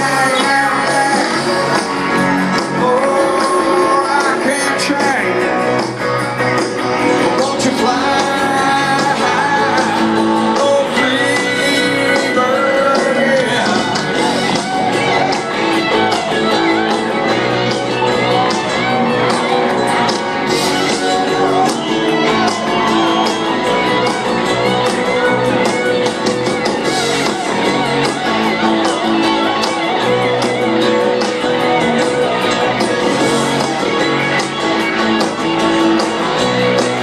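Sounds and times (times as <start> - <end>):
electric guitar bending notes: 0.0 - 37.0
live rock band playing: 0.0 - 37.0.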